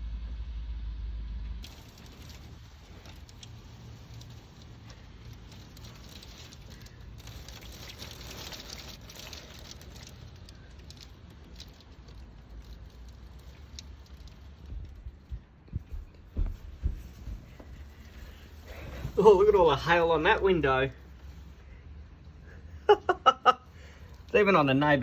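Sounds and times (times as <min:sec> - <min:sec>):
hail and rain pattering: 0:01.6 - 0:21.7.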